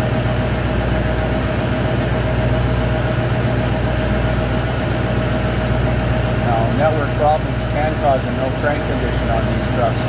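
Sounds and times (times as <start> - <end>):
constant engine whine: 0.0 - 10.0
diesel truck engine idling: 0.0 - 10.0.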